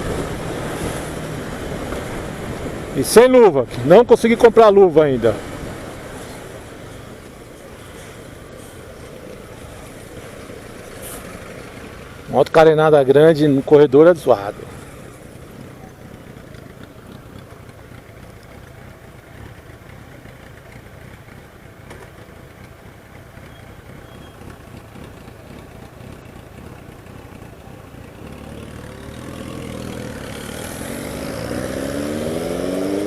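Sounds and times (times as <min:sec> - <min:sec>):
motorcycle engine running: 0:03.8 - 0:33.0.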